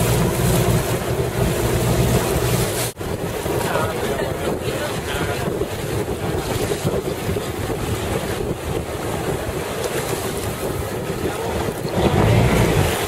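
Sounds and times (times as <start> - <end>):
choppy water splashing: 0.0 - 13.0
wind buffeting microphone: 0.0 - 13.0.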